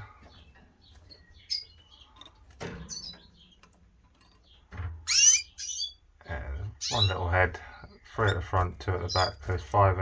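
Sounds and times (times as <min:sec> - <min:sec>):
canaries chirping: 0:00.0 - 0:10.0.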